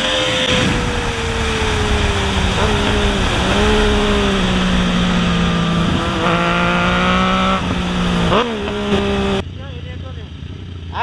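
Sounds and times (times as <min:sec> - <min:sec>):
wind rush on microphone: 0:00.0 - 0:09.4
motorcycle engine revving high: 0:00.0 - 0:11.0.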